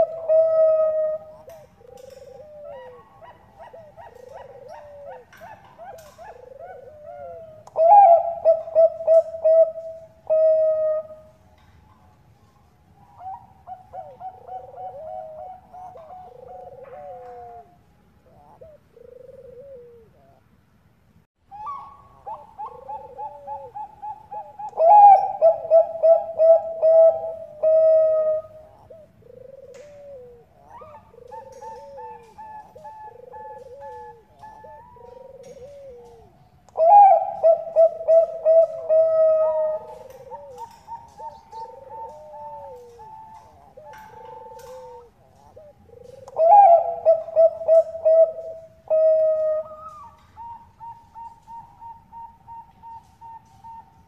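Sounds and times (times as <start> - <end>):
doves cooing: 0.0 - 20.6, 21.5 - 54.0.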